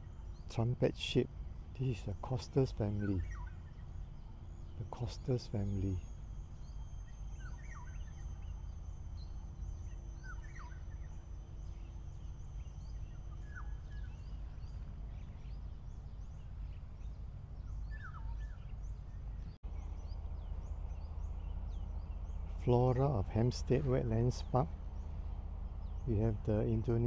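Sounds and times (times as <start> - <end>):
faint high bird chirps: 0.0 - 27.0
low background rumble: 0.0 - 27.0.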